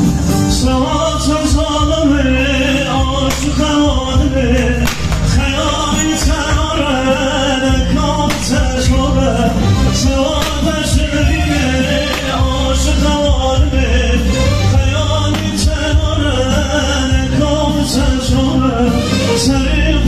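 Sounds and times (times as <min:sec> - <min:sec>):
low music accompaniment: 0:00.0 - 0:20.0
man singing long held notes: 0:00.4 - 0:20.0.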